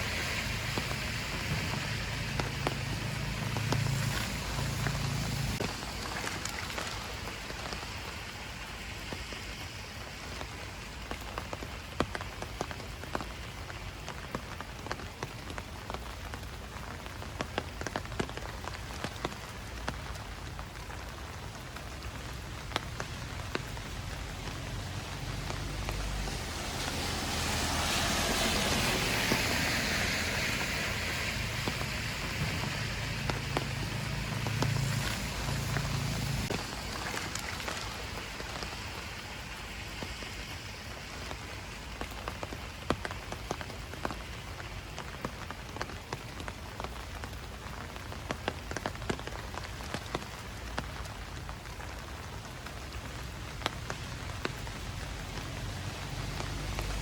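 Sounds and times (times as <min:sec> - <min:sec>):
raindrops pattering on leaves: 0:00.0 - 0:57.0.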